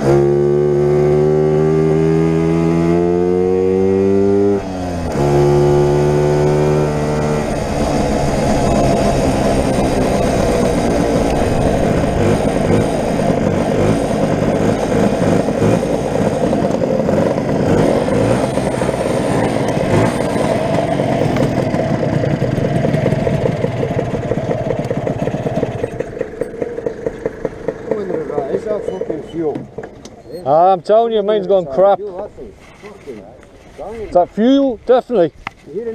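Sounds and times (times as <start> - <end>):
scooter engine running rough: 0.0 - 30.0.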